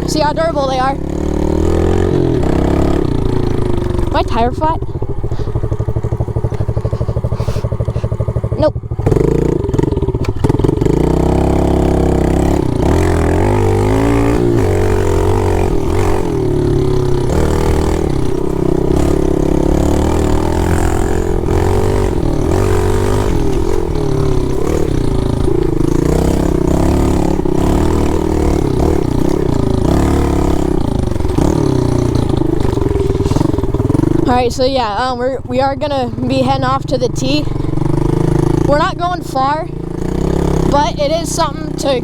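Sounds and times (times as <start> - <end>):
pit bike engine revving: 0.0 - 42.0.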